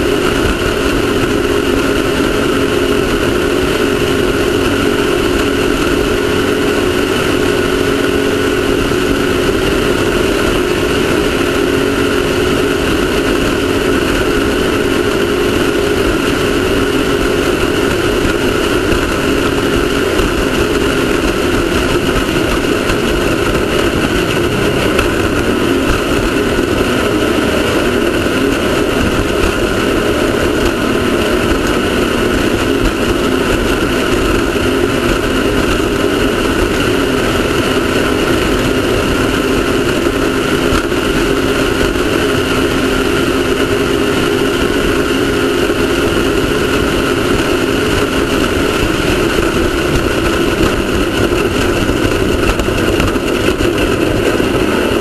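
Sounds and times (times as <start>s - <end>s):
race car engine running hard: 0.0s - 55.0s
rush of noise: 0.0s - 55.0s.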